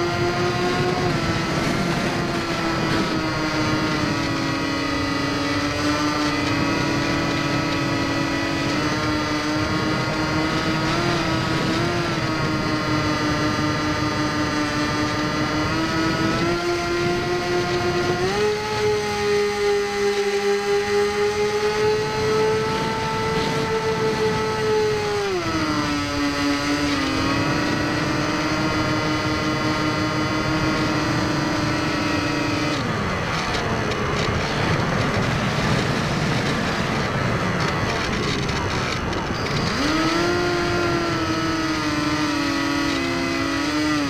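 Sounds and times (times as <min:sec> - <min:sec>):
electric motor and propeller whining: 0:00.0 - 0:44.0.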